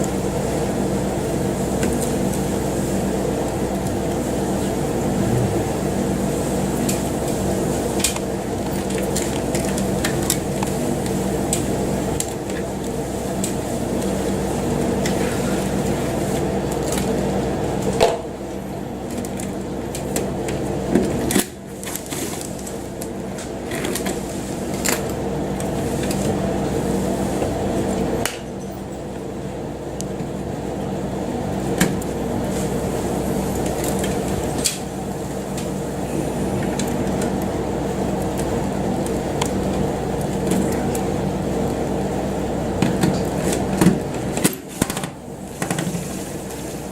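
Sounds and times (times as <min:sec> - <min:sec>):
mechanical motor hum: 0:00.0 - 0:46.9.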